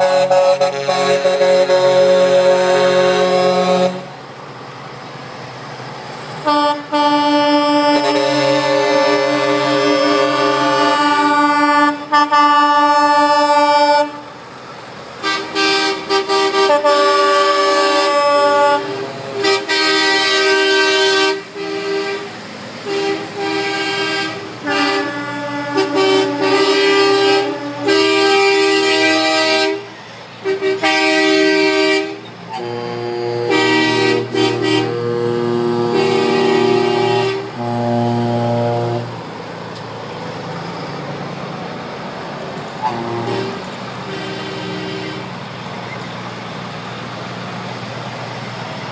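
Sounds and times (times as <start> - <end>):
truck air horns blasting: 0.0 - 4.2, 6.4 - 14.4, 15.2 - 39.6, 42.8 - 45.8.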